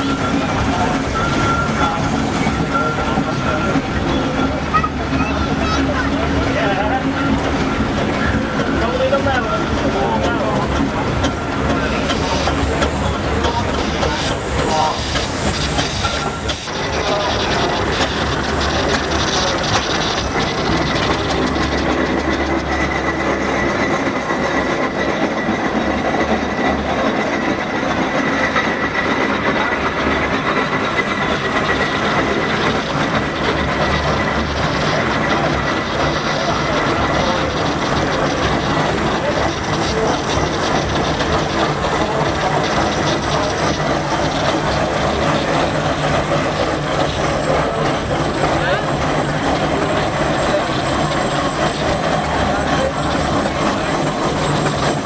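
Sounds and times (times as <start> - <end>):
steam engines running: 0.0 - 55.0.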